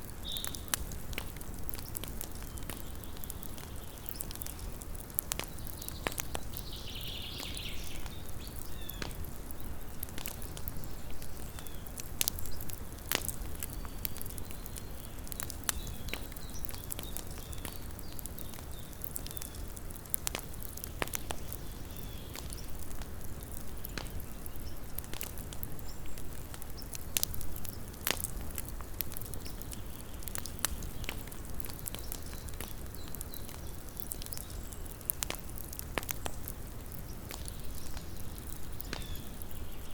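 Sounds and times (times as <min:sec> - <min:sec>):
campfire crackles and pops: 0:00.0 - 0:39.9
flames rumbling: 0:00.0 - 0:39.9.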